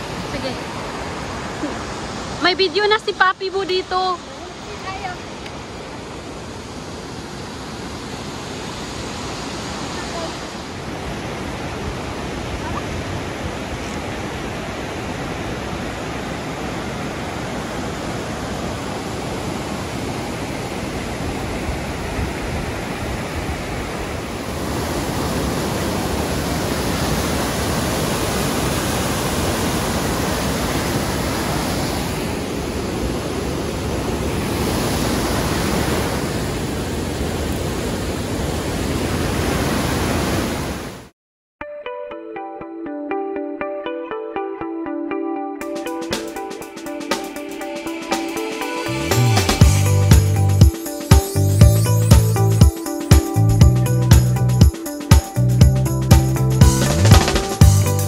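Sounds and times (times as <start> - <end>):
waterfall rushing: 0.0 - 41.0, 45.6 - 58.0.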